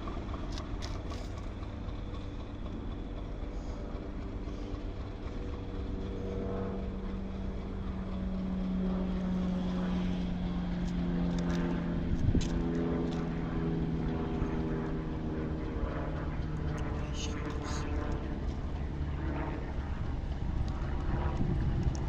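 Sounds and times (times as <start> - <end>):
diesel locomotive engine drone: 0.0 - 22.0.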